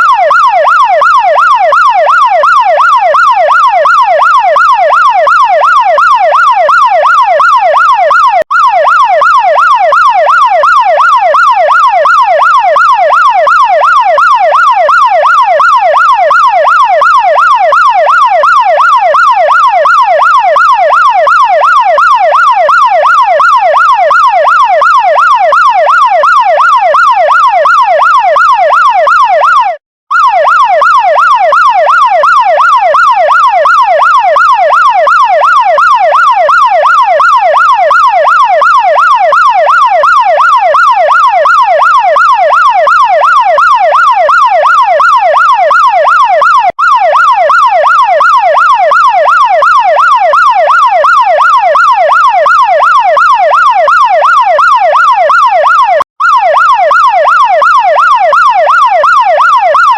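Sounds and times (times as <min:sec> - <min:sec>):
fire truck siren yelping: 0:00.0 - 0:59.9.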